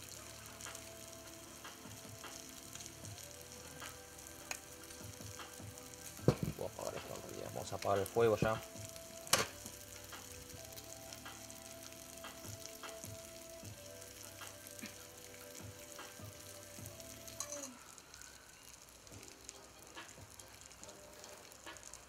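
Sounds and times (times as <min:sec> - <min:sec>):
fat crackling: 0:00.0 - 0:22.0
meat sizzling on a grill pan: 0:00.0 - 0:22.0.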